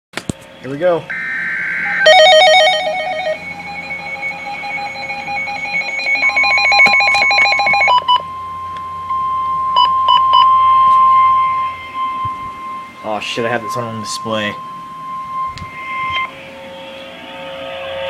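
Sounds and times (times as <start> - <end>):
rapid pulsing alarm beeps: 0.8 - 18.0
steady single-pitch warning tone: 0.8 - 18.0
short beeps: 1.1 - 8.2, 8.8 - 16.3.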